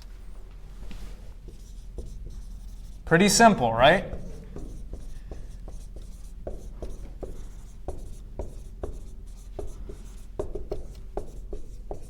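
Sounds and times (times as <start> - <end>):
low room hum: 0.0 - 12.0
writing strokes on a board: 0.9 - 12.0.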